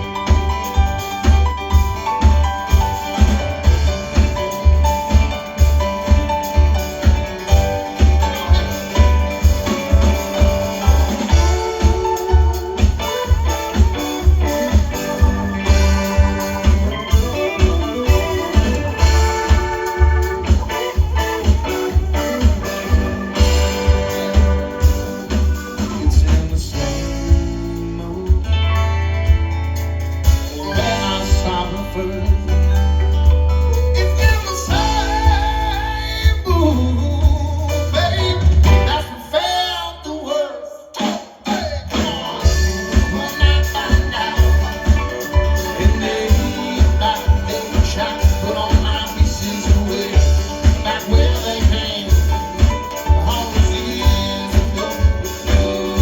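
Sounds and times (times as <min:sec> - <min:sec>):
steady bass: 0:00.0 - 0:39.2, 0:42.0 - 0:56.0
live rock band playing: 0:00.0 - 0:40.2, 0:40.8 - 0:56.0.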